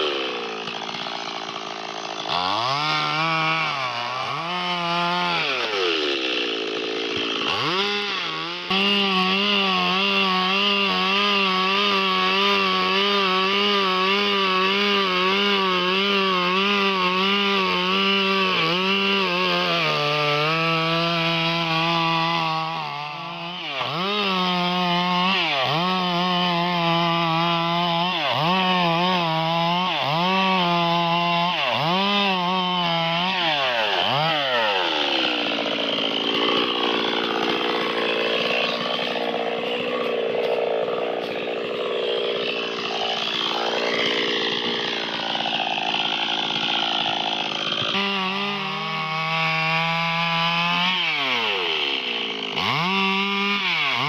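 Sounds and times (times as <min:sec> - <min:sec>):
chainsaw sawing wood: 0:00.0 - 0:54.0.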